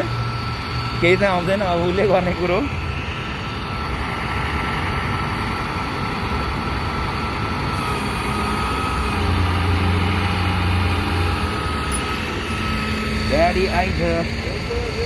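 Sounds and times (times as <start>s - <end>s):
deep drone: 0.0s - 15.0s
faint steady whine: 0.0s - 15.0s
truck engine idling: 0.0s - 15.0s.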